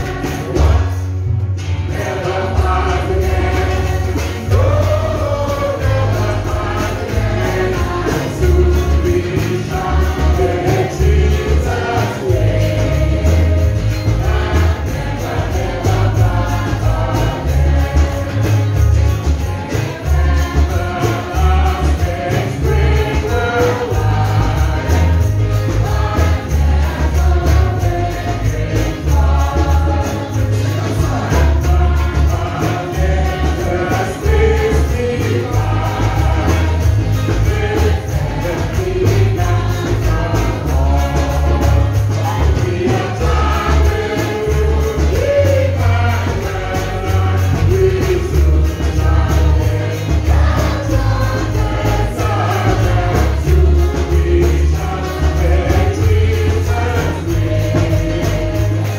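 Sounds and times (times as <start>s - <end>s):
choir singing: 0.0s - 58.9s
jingling tambourine: 0.0s - 58.9s
pulsing bass line: 0.0s - 58.9s
singers on microphones: 0.0s - 58.9s.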